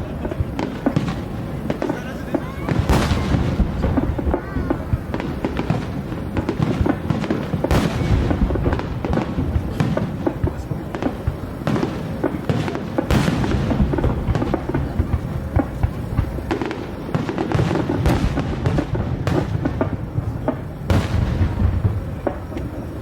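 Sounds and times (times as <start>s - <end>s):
fireworks booming and crackling: 0.0s - 23.0s.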